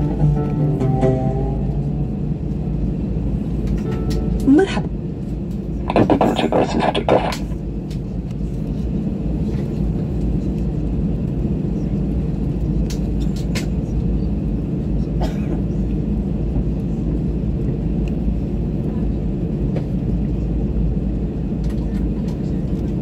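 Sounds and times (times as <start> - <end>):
jet engines humming: 0.0 - 23.0.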